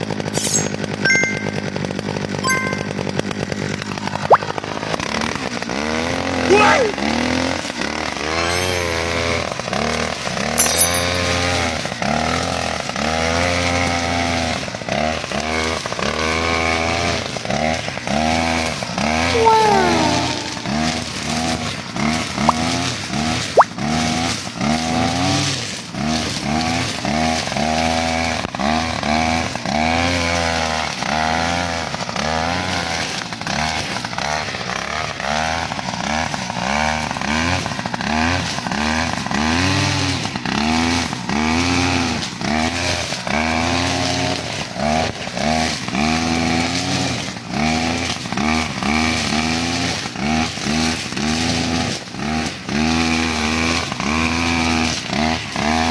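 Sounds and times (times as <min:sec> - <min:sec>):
brush cutter engine revving: 0:00.0 - 0:55.9.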